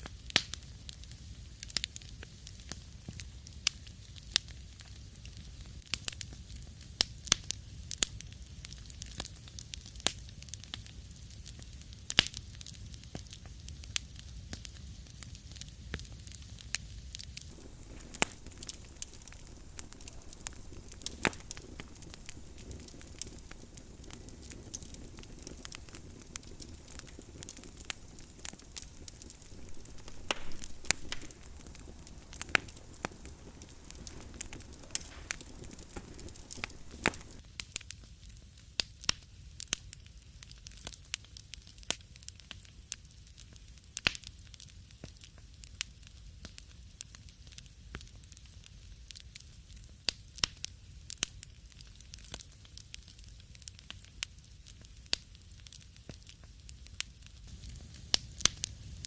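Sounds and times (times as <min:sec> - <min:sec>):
wood fire crackling: 0:00.0 - 0:37.4, 0:47.4 - 0:59.0.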